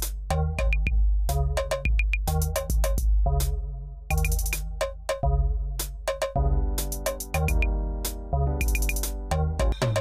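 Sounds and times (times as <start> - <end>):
electronic music with drum machine: 0.0 - 10.0.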